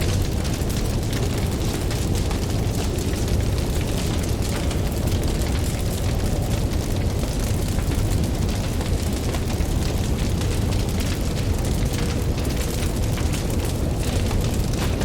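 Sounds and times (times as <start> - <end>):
crackles and pops of burning wood: 0.0 - 15.0
low rumble of flame: 0.0 - 15.0.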